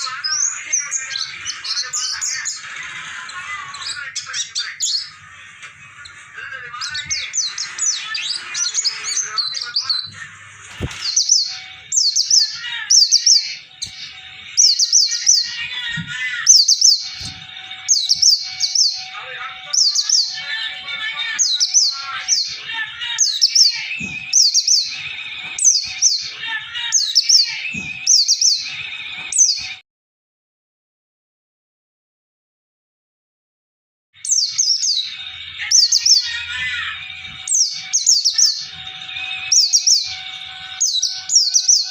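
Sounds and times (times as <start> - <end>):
other birds chirping: 0.0 - 29.8, 34.2 - 41.9.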